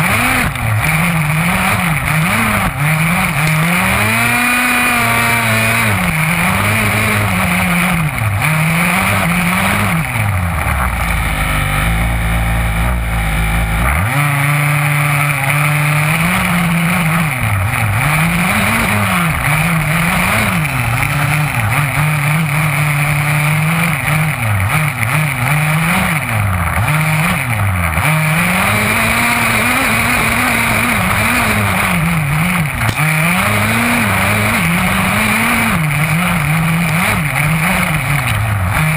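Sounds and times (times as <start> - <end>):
rc buggy engine revving: 0.0 - 38.9.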